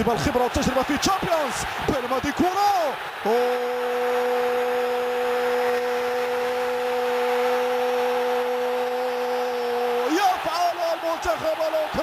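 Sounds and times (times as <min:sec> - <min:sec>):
stadium crowd roaring: 0:00.0 - 0:12.0
commentator shouting long cry: 0:00.5 - 0:12.0.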